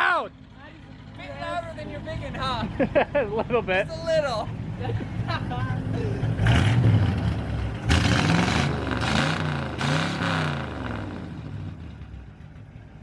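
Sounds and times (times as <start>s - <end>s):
car engine revving: 1.0s - 13.0s.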